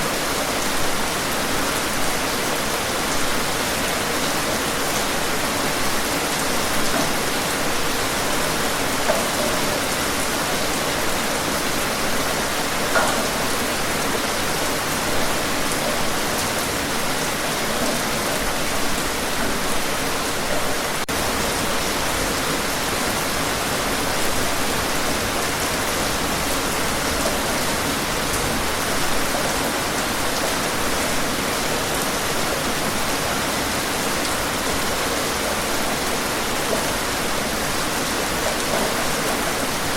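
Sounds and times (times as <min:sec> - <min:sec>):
rain splashes: 0:00.0 - 0:39.9
steady rain hiss: 0:00.0 - 0:39.9.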